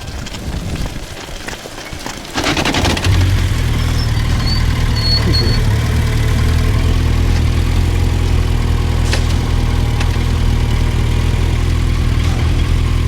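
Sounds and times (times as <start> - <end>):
motorcycle engine idling: 2.4 - 13.0.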